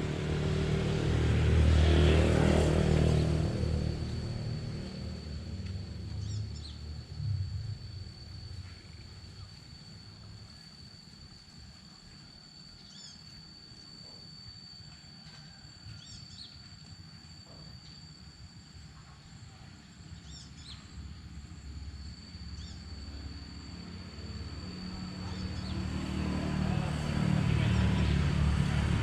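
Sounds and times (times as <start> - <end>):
high-pitched hum: 0.0 - 29.0
low outdoor rumble: 0.0 - 29.0.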